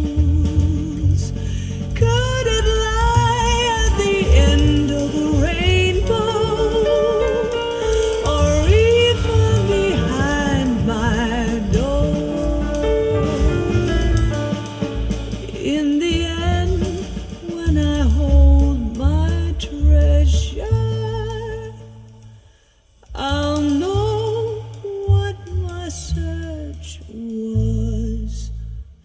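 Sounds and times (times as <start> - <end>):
slow soulful song with singer: 0.0 - 28.9
deep bass: 0.0 - 29.0.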